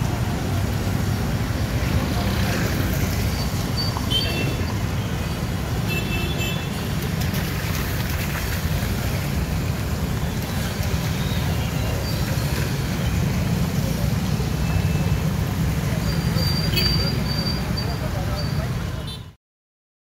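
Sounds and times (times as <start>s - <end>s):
traffic on wet road: 0.0s - 19.4s.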